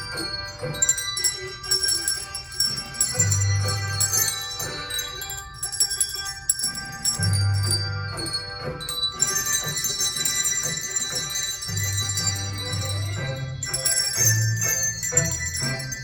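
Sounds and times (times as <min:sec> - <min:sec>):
handbell choir ringing: 0:00.0 - 0:16.0.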